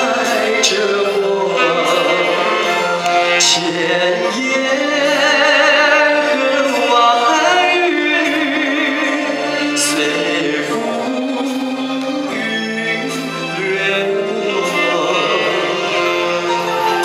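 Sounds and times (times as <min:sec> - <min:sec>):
man singing a ballad: 0:00.0 - 0:16.6
instrumental accompaniment: 0:00.0 - 0:17.0.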